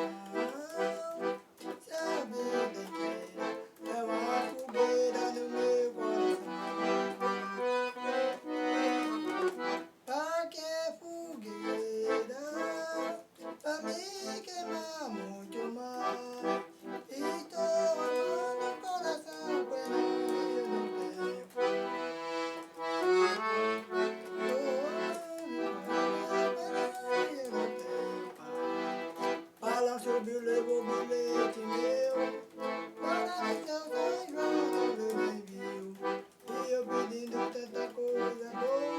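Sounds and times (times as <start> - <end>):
accordion melody: 0.0 - 38.9.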